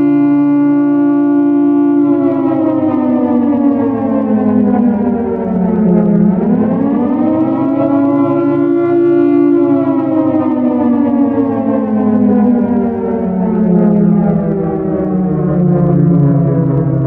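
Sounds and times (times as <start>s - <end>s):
air raid siren wailing: 0.0s - 17.0s.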